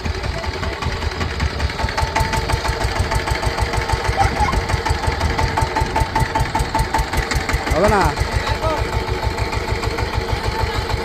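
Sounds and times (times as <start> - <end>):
power tiller engine chugging: 0.0 - 11.0.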